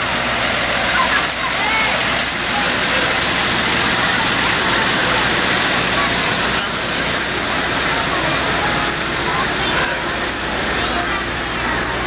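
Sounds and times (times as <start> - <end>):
truck engine idling: 0.0 - 12.0
faint voices: 0.6 - 12.0.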